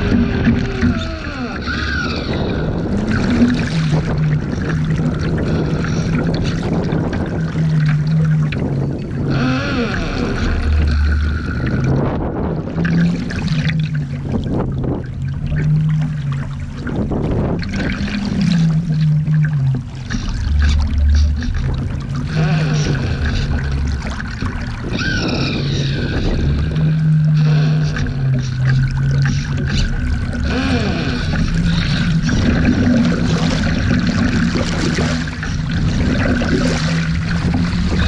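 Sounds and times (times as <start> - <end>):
low hum shifting in pitch: 0.0 - 38.0
water splashing against hull: 0.0 - 38.0
wind buffeting microphone: 0.0 - 38.0.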